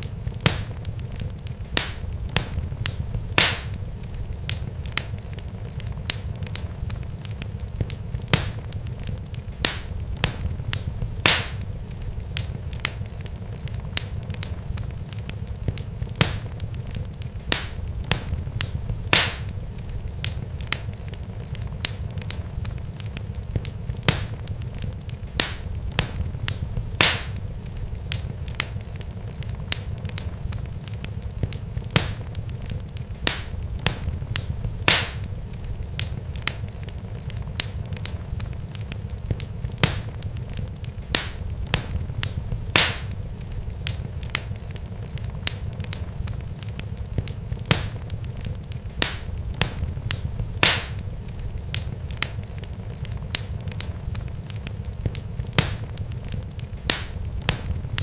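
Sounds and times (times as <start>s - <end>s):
sharp crackles and pops: 0.0s - 58.0s
steady low rumble: 0.0s - 58.0s.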